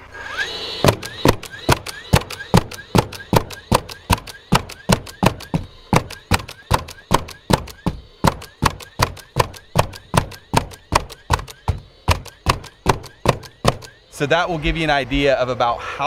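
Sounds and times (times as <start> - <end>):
nailer rising whir: 0.0 - 15.8
nail gun shots: 0.8 - 14.0.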